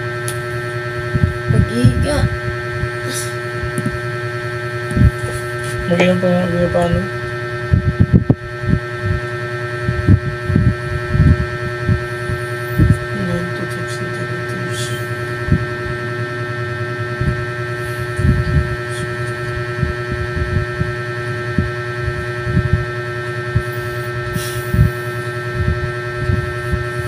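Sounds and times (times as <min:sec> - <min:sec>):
steady electrical hum: 0:00.0 - 0:27.0
low thumps and rumbles: 0:00.3 - 0:13.2, 0:15.2 - 0:27.0.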